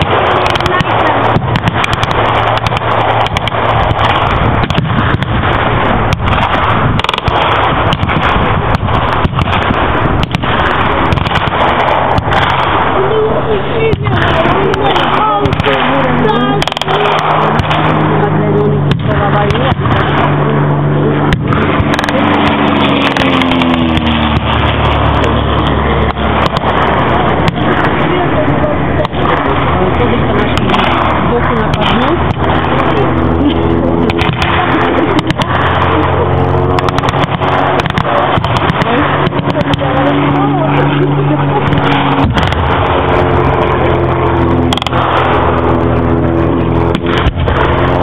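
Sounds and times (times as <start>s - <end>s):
propeller plane passing: 0.0s - 48.0s
sharp cracks: 0.0s - 48.0s
steady rumble: 0.0s - 48.0s
vehicle engine droning: 0.0s - 48.0s.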